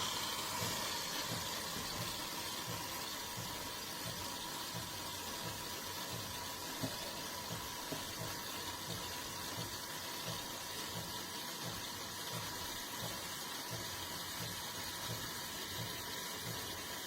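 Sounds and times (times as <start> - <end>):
espresso machine humming: 0.0 - 17.0.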